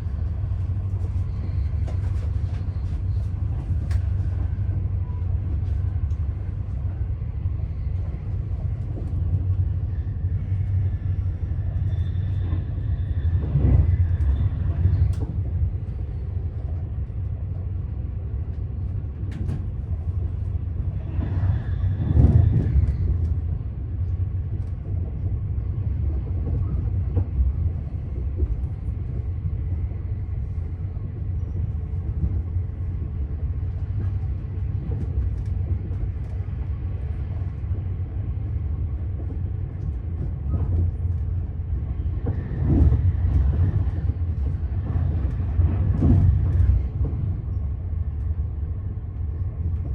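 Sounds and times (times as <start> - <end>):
train rumble inside carriage: 0.0 - 49.9.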